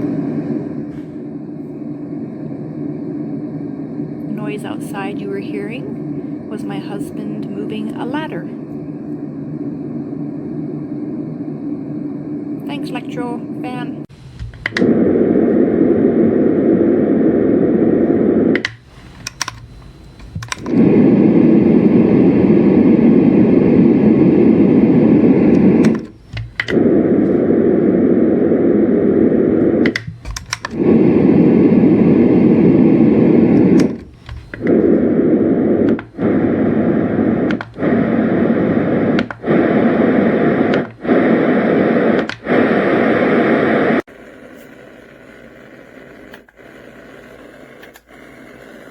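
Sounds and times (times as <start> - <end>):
white noise machine rushing: 0.0 - 48.9.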